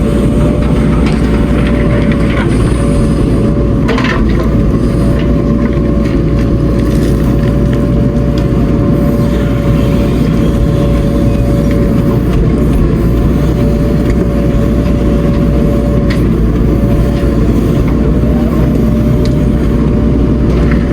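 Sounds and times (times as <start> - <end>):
diesel machinery rumbling: 0.0 - 20.9
steady mechanical whine: 0.0 - 20.9.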